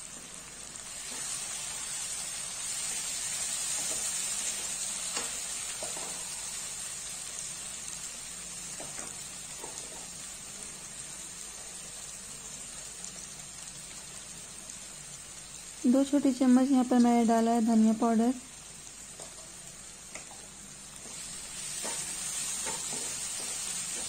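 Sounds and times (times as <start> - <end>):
masala sizzling in oil: 0.0 - 24.0.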